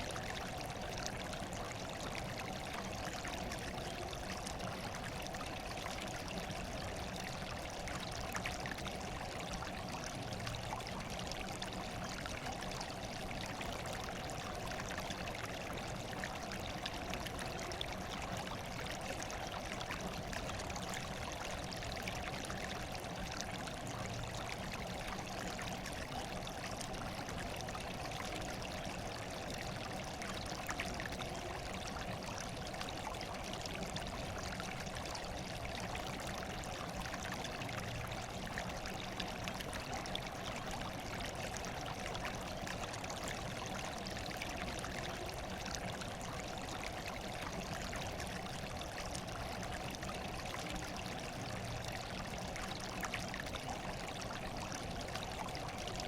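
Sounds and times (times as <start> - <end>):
water running steadily: 0.0 - 56.0.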